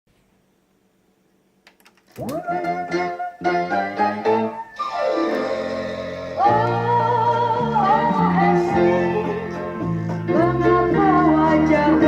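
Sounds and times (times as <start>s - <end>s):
faint steady hum: 0.1s - 12.0s.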